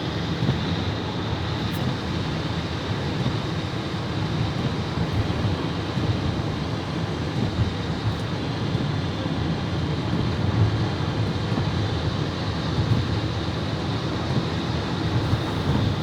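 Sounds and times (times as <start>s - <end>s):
city street ambience rumble: 0.0s - 16.0s.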